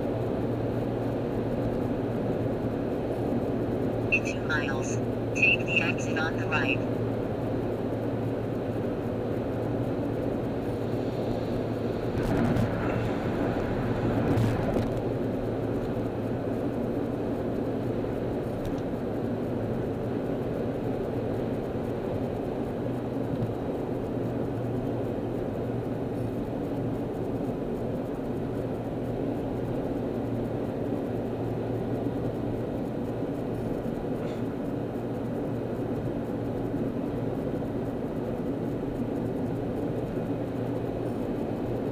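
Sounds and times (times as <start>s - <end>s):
car engine hum and road noise: 0.0s - 41.9s.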